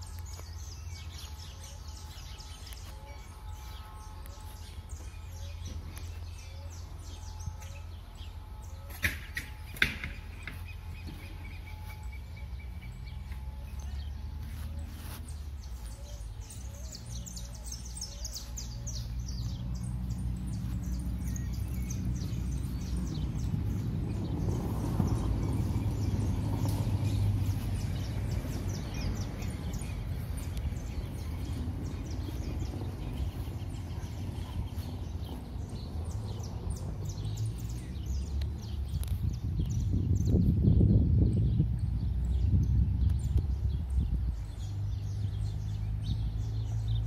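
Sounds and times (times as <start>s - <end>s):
low rumbling noise: 0.0s - 47.0s
songbirds chirping: 0.0s - 47.0s.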